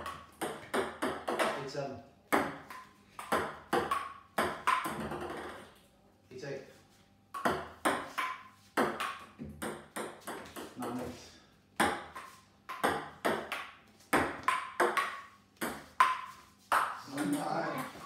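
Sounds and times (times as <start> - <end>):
table tennis ball rally: 0.0 - 5.7, 7.3 - 11.2, 11.8 - 18.0.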